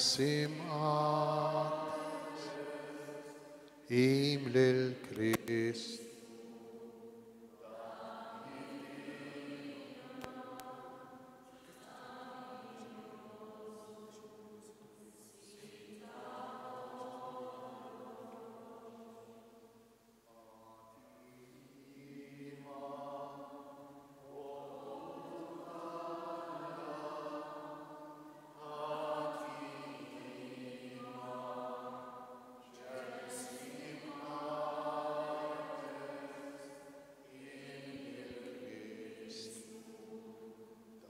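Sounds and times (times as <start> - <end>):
voices singing a hymn: 0.0 - 41.0.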